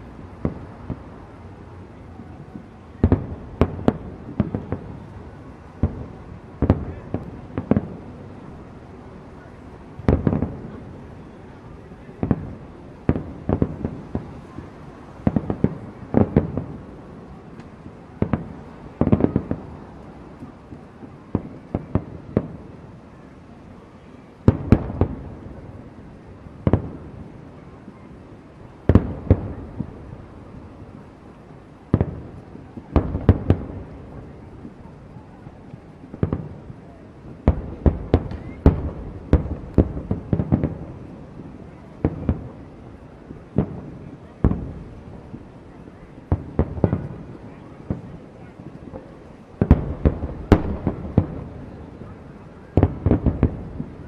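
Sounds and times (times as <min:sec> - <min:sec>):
fireworks booming: 0:00.0 - 0:23.0, 0:24.4 - 0:28.0, 0:28.6 - 0:54.0.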